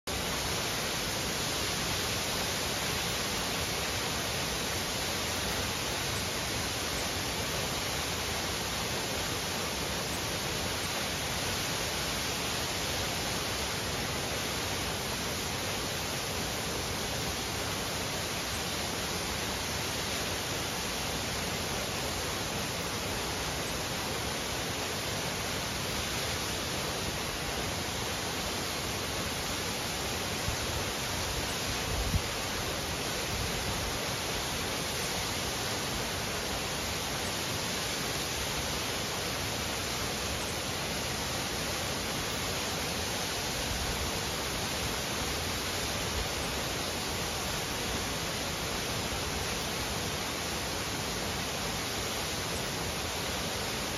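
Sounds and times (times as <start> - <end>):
waterfall rushing: 0.1 - 53.9.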